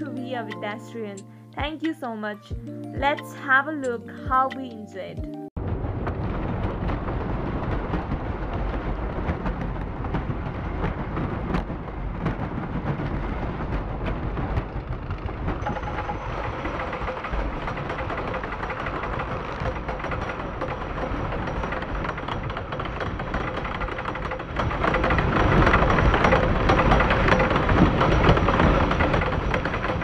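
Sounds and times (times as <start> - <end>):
roller coaster rumble and rattle: 5.6 - 30.0.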